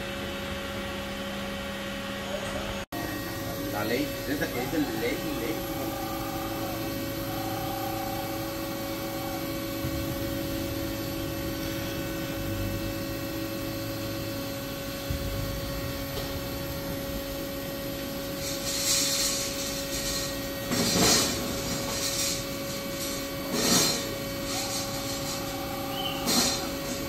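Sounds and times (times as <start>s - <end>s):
machine table hum with whine: 0.0s - 27.0s.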